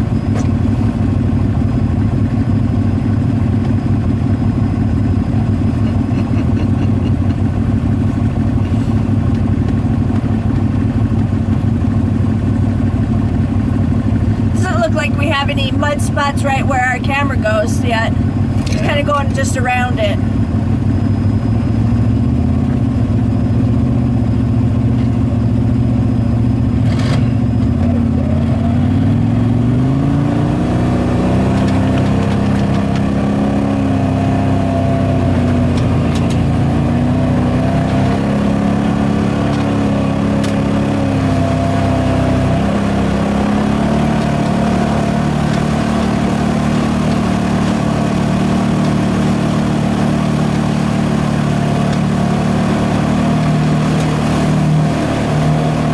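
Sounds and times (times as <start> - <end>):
utility vehicle engine running: 0.0 - 55.9.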